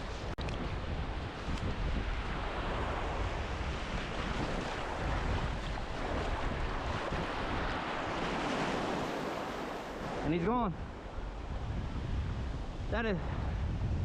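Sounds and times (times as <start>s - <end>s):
wind buffeting microphone: 0.0s - 14.0s
breaking surf: 0.5s - 13.5s.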